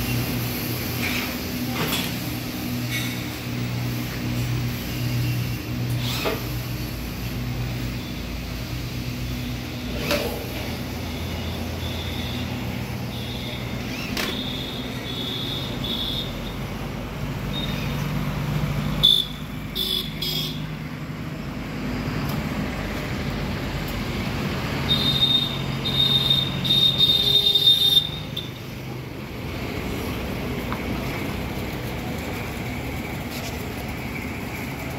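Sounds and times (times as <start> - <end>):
street traffic noise: 0.0 - 34.9.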